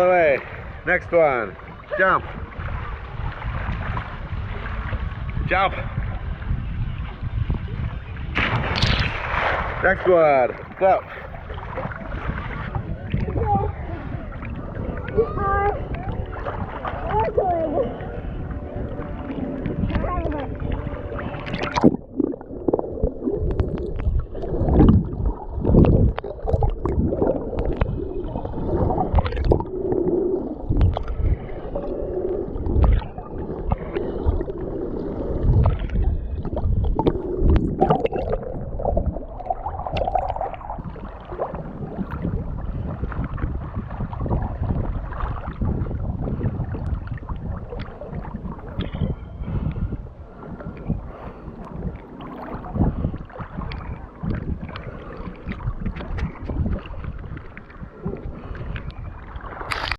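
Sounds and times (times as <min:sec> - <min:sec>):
water sloshing and gurgling: 0:00.0 - 0:59.9.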